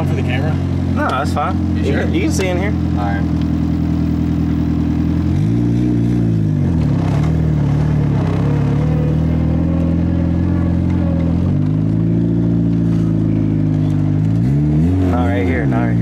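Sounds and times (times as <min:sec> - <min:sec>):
car engine pulling away: 0:00.0 - 0:16.0.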